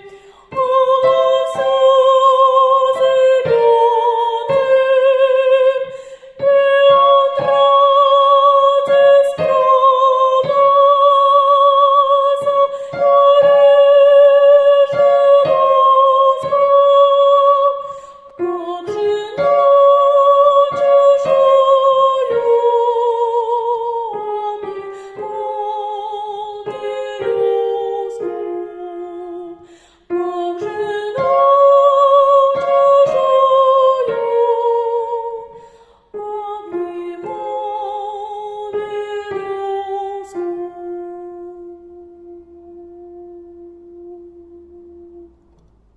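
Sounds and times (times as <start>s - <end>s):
woman singing solo: 0.0s - 45.3s.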